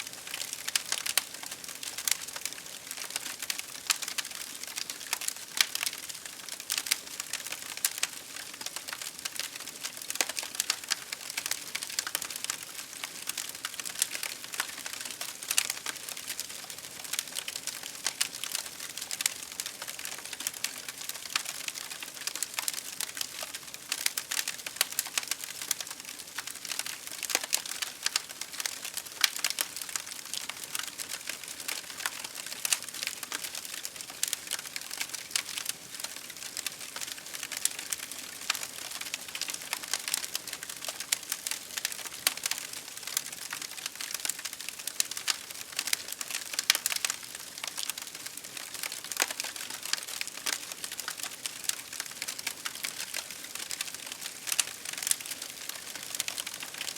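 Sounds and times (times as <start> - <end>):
campfire crackling and popping: 0.1 - 56.9.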